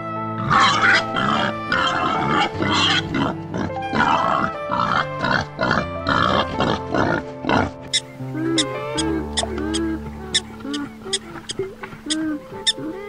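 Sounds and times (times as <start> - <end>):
background music: 0.0 - 13.0
wild boar grunting: 0.4 - 13.0.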